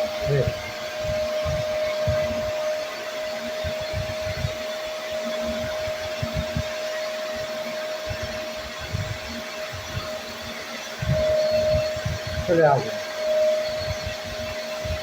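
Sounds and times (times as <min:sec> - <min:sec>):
carpet cleaner motor whining: 0:00.0 - 0:15.0.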